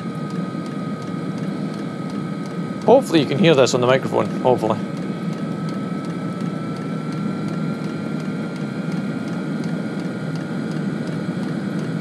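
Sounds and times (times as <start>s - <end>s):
fan whine: 0.0s - 12.0s
heater combustion roar: 0.0s - 12.0s.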